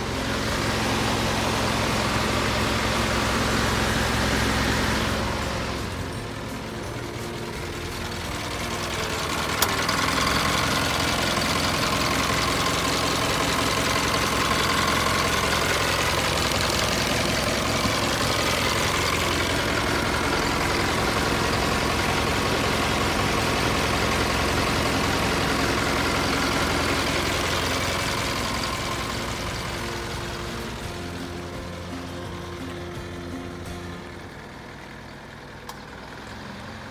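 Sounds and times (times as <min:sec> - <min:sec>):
truck engine idling: 0:00.0 - 0:36.9.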